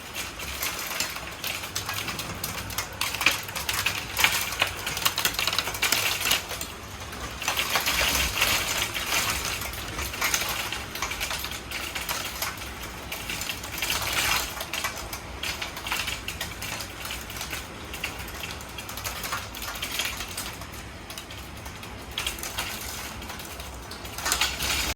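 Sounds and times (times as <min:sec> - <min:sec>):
hailstones clattering: 0:00.0 - 0:24.9.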